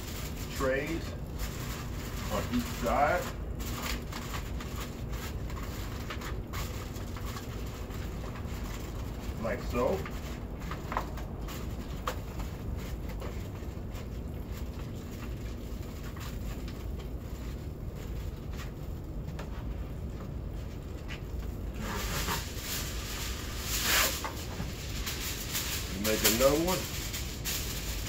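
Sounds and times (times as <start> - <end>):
aluminum foil crinkling: 0.0 - 28.0
low background rumble: 0.0 - 28.0.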